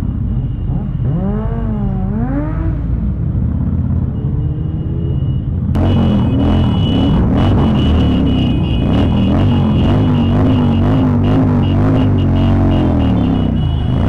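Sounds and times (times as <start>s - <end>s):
motorcycle engines rumbling: 0.0s - 14.0s
motorcycle engine revving: 0.7s - 5.1s, 5.7s - 14.0s.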